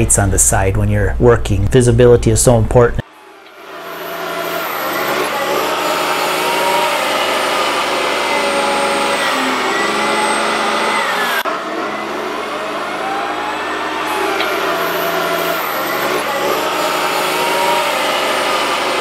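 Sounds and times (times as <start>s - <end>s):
wheel loader diesel engine: 3.0s - 19.0s.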